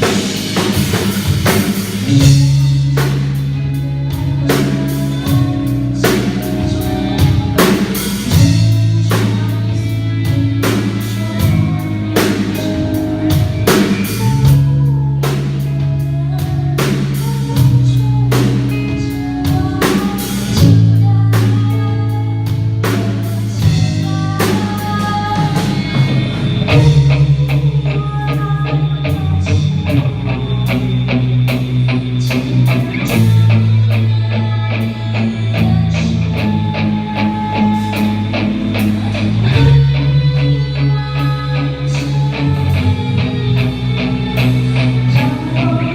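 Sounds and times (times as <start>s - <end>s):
bass guitar: 0.0s - 45.9s
drum kit beating: 0.0s - 45.9s
electric guitar: 0.0s - 45.9s.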